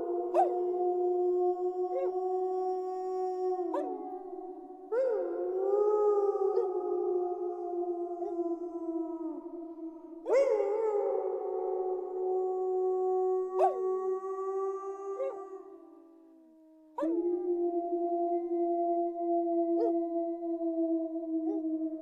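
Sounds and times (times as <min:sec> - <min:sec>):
wolves howling: 0:00.0 - 0:16.1, 0:16.9 - 0:22.0.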